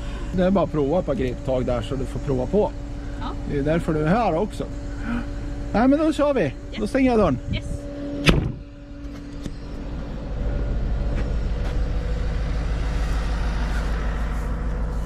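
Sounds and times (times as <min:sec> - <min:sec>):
truck engine and hydraulics drone: 0:00.0 - 0:15.0.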